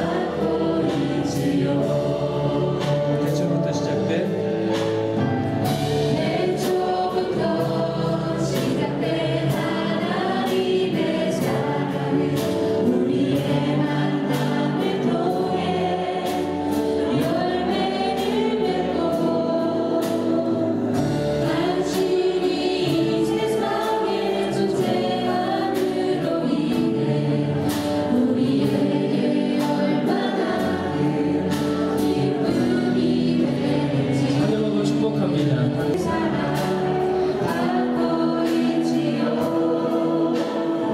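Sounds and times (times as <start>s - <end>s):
group singing worship song: 0.0s - 40.9s
instrumental accompaniment with beat: 0.0s - 40.9s.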